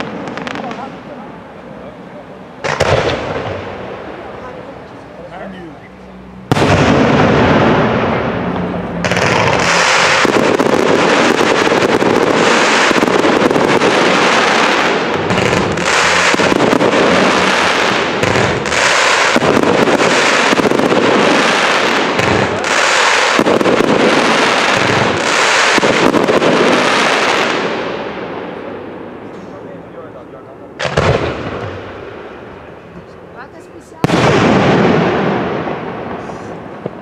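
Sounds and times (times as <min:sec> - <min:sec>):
fireworks bursts and bangs: 0:00.0 - 0:05.1, 0:06.5 - 0:29.6, 0:30.8 - 0:37.0.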